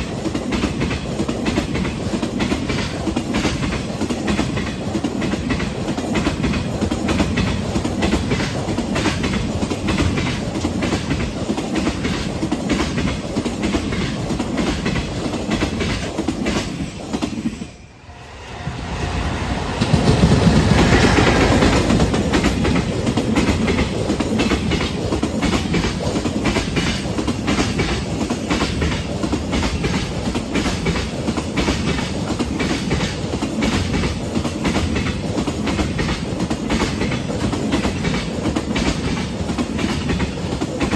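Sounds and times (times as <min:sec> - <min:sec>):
train wheels clacking over rail joints: 0:00.0 - 0:17.7, 0:19.8 - 0:40.9
low train rumble: 0:00.0 - 0:40.9.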